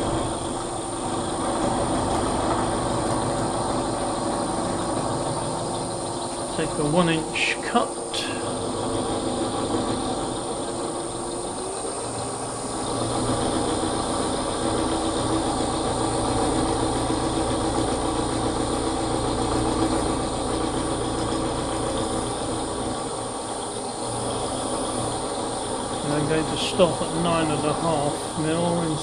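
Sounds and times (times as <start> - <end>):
milling machine cutting metal: 0.0 - 29.0.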